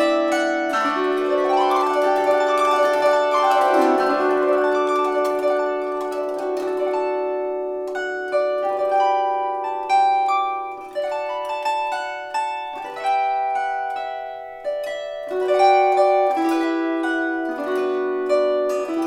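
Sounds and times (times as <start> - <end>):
plucked psaltery melody: 0.0 - 19.0.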